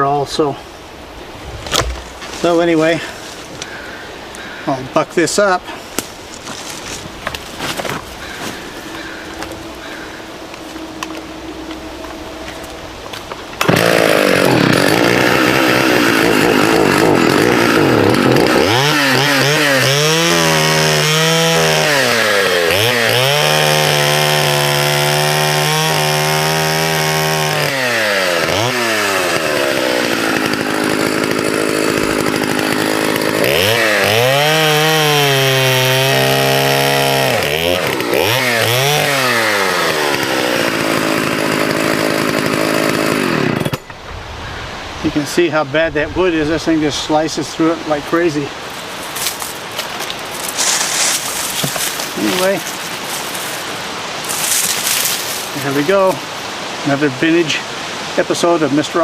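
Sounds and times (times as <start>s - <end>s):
chainsaw cutting wood: 1.6s - 3.8s, 6.0s - 44.0s, 48.2s - 57.0s.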